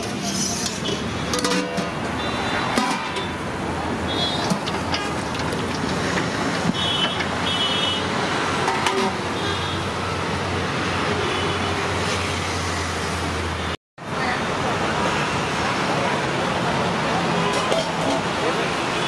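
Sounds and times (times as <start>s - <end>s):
roadside traffic: 0.0s - 19.0s.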